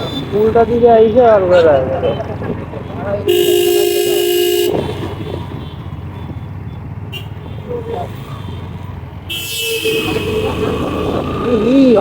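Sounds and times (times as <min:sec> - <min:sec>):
muffled vehicle engines rumbling: 0:00.0 - 0:12.0
road noise: 0:00.0 - 0:12.0.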